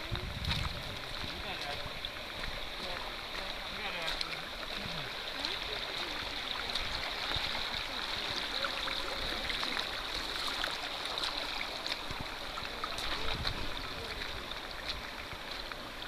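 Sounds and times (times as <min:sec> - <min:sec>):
creek running over rock: 0:00.0 - 0:16.0
water splashes and drips: 0:00.0 - 0:16.0.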